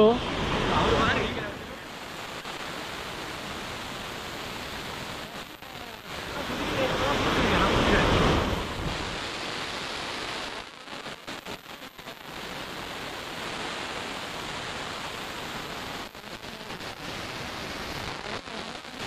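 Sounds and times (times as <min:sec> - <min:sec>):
water rushing over rocks: 0:00.0 - 0:18.3.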